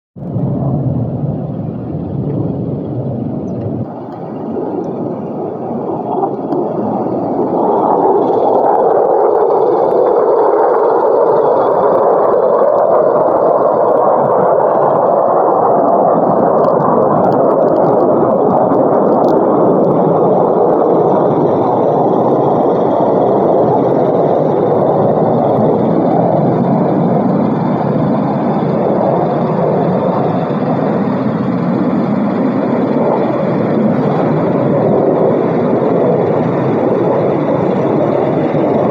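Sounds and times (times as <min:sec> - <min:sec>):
jet engines roaring on takeoff: 0:00.2 - 0:38.9.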